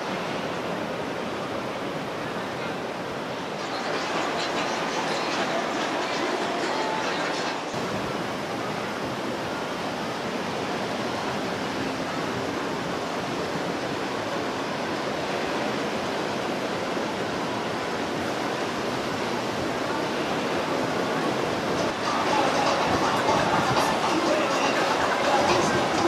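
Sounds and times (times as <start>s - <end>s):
water rushing from boat wake: 0.0s - 26.0s.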